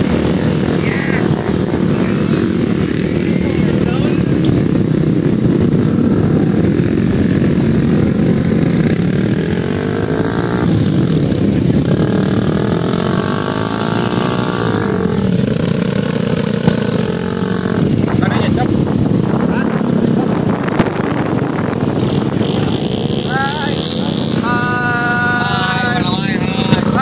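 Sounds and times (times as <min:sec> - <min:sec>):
motorcycle engine revving: 0:00.0 - 0:27.0
motorcycle engines rumbling: 0:00.0 - 0:27.0.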